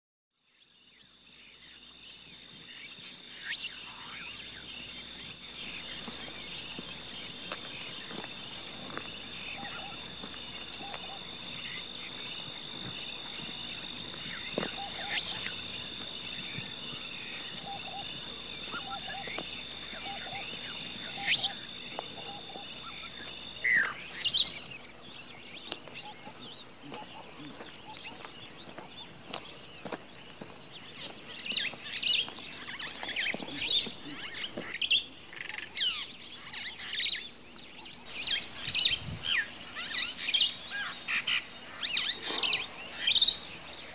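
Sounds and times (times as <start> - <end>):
pulsing chorus of chirping animals: 0.4 - 43.9
soft steady high chirring: 0.4 - 43.9.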